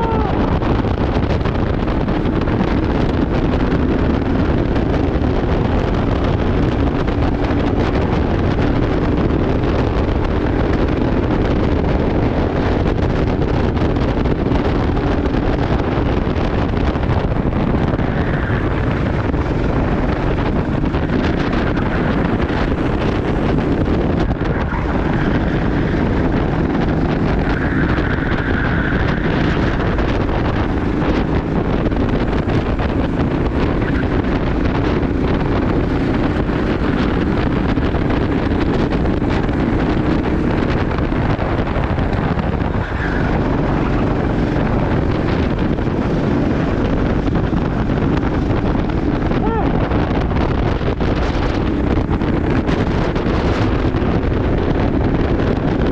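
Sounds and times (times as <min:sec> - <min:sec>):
go-kart engine running: 0:00.0 - 0:55.9
wind buffeting microphone: 0:00.0 - 0:55.9.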